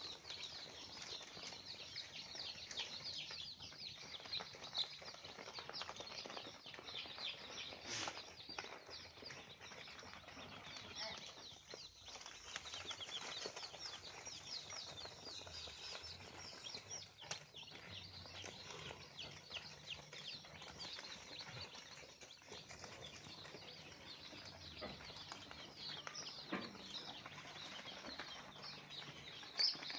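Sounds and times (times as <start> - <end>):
chickens chirping and peeping: 0.0 - 29.9.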